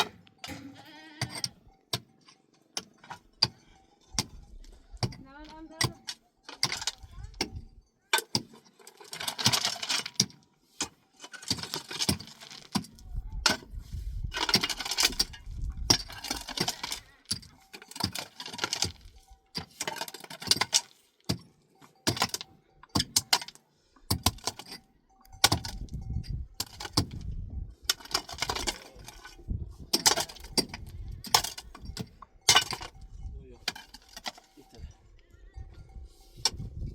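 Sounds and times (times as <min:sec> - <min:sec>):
objects clinking and knocking: 0:00.0 - 0:36.9.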